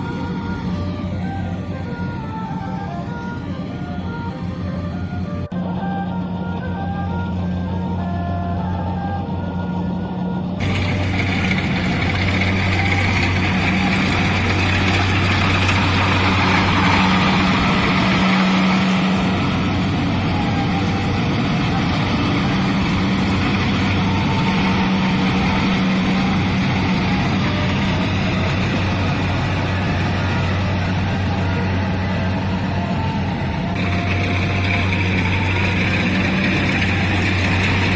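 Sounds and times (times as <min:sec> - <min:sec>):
mechanical whir of harvesting machinery: 0:00.0 - 0:08.0, 0:08.6 - 0:37.9
engine hum: 0:00.0 - 0:37.9.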